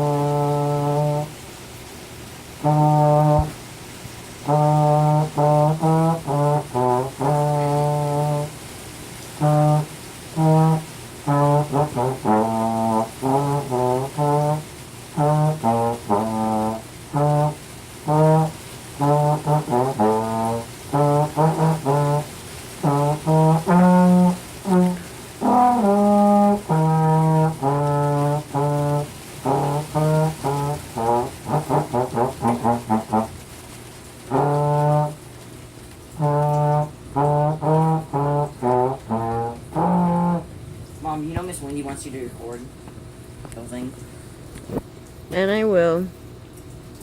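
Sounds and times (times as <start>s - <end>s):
low brass instrument playing: 0.0s - 42.8s.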